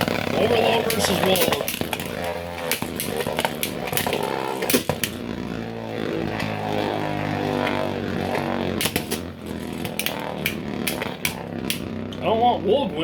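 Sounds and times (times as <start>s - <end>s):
spinning tops whirring: 0.0s - 13.0s.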